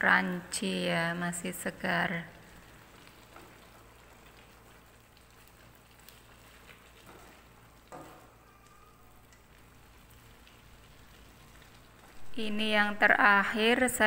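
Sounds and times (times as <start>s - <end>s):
faint sizzling in a wok: 0.0s - 14.0s.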